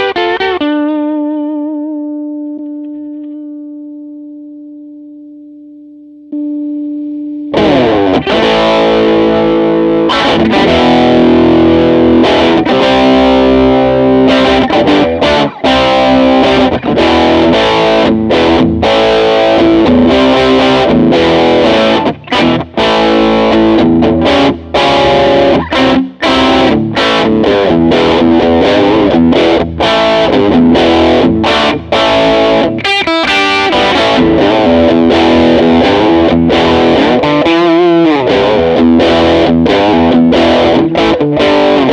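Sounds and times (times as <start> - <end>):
electric guitar chords and riffs: 0.0 - 41.9.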